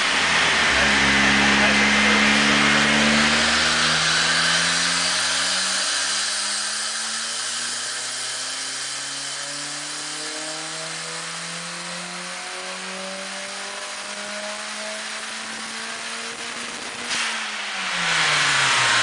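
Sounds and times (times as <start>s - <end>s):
car engine revving on dyno: 0.0s - 19.0s.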